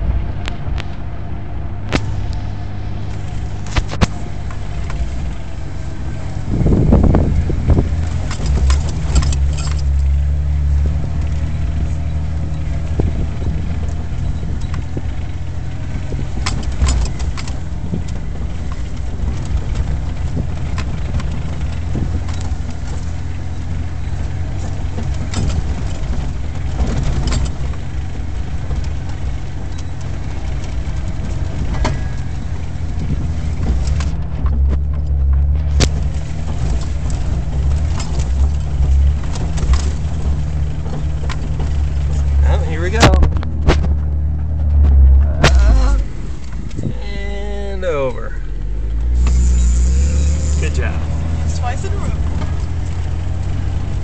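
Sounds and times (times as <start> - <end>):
vehicle knocks and rattles: 0.0 - 47.0, 47.6 - 54.0
car engine running at low speed: 0.0 - 54.0.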